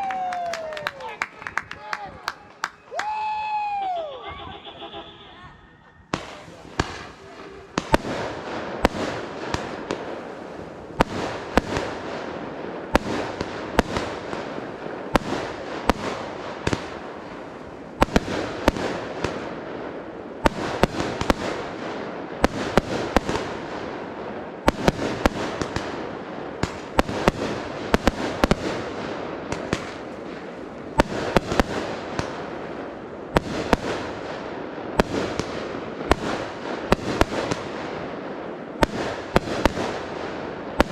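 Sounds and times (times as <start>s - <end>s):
firework shells bursting: 6.0s - 40.9s
fireworks crackle and hiss: 6.0s - 40.9s.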